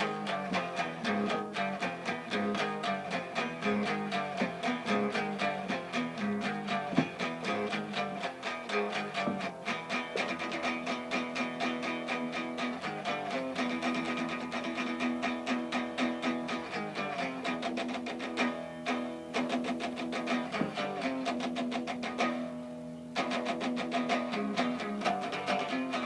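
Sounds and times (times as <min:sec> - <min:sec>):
strummed guitar chords: 0:00.0 - 0:26.0.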